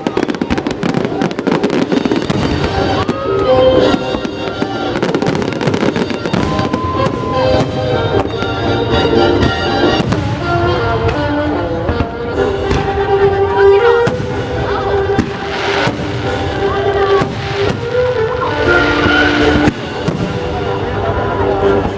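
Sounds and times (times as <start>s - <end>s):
fireworks bangs and crackles: 0.0s - 21.9s
music playing: 0.0s - 21.9s.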